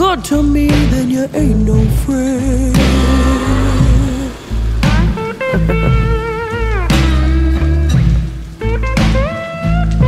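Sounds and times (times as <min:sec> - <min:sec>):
bass line: 0:00.0 - 0:10.0
blues lead guitar: 0:00.0 - 0:10.0.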